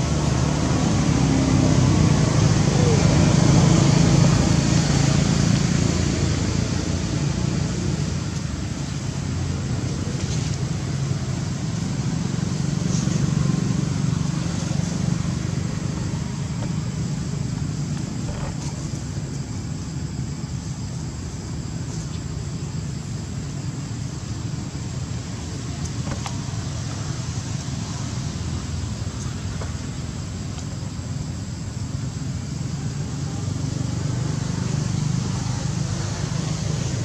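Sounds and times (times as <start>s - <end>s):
traffic engines rumbling: 0.0s - 37.0s.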